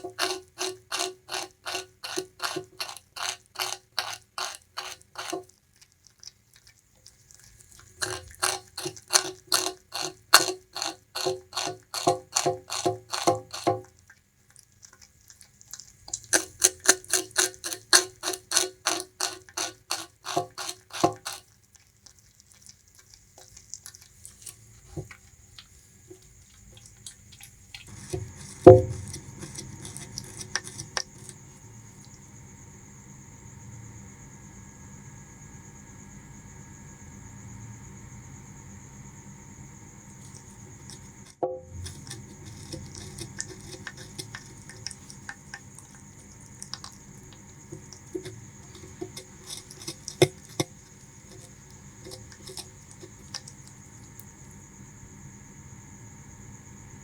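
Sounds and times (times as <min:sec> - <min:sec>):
rodent chewing sugarcane: 0:00.0 - 0:57.0.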